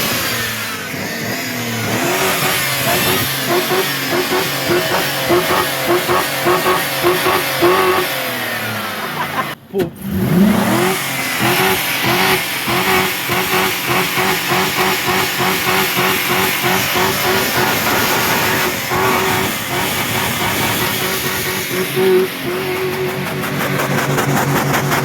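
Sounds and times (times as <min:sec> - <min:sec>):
car engine running at raised revs: 0:00.0 - 0:25.0.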